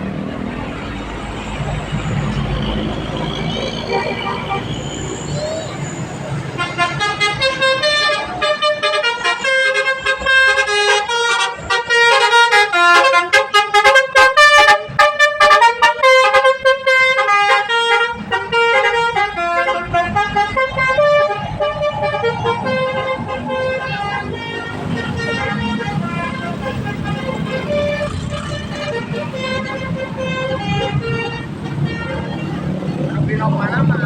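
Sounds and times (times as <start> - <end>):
bus engine rumble: 0.0 - 34.0
multi-tone bus horn melody: 0.4 - 34.0.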